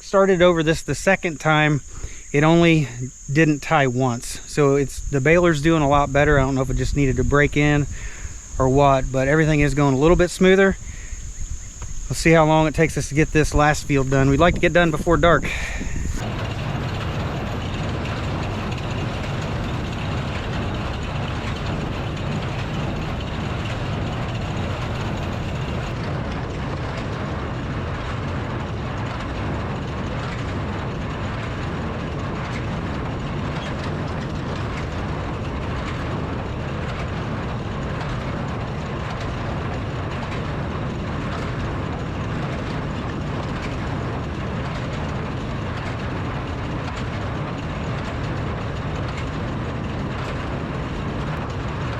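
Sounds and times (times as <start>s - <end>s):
tractor engine drone: 0.0s - 51.9s.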